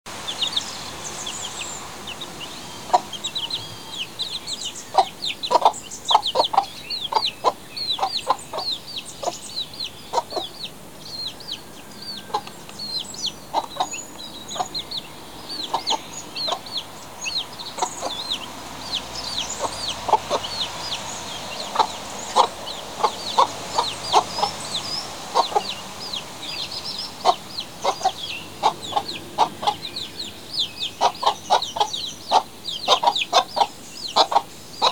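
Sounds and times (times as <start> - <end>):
chicks peeping: 0.1 - 34.9
hen clucking: 2.1 - 34.9.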